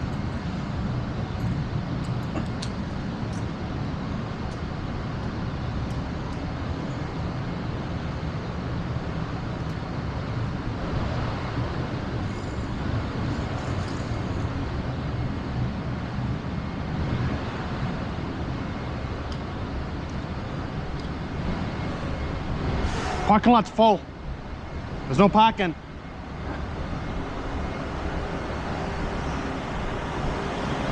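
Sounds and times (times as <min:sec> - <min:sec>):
vehicle engines: 0:00.0 - 0:30.9.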